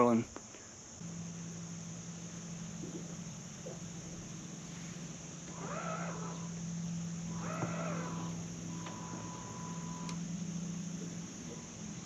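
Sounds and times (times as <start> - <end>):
steady low hum: 0.7 - 12.0.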